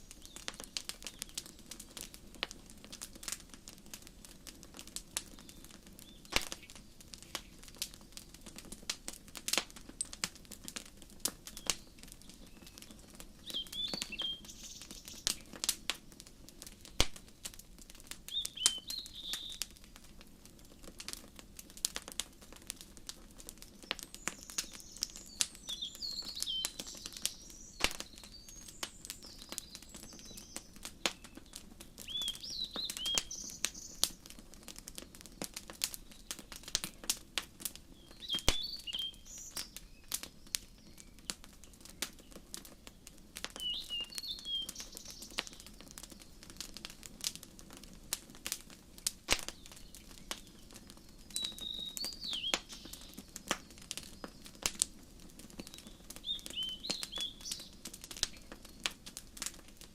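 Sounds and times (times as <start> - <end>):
songbirds chirping: 0.0 - 21.2, 21.8 - 59.9
wood fire crackling and popping: 0.0 - 59.9.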